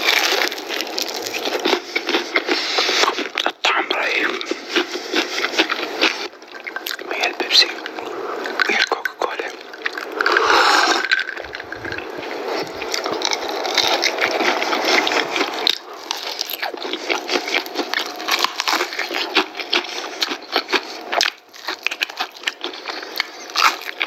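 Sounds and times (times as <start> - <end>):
chewing crunchy fried chicken: 0.0 - 24.0.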